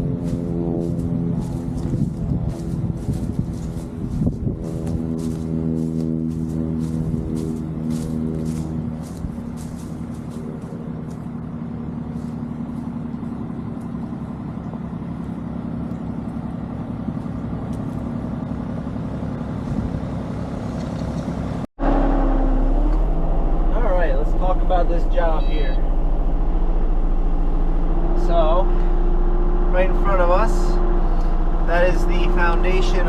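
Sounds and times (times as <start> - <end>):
engine rumbling: 0.0 - 33.0.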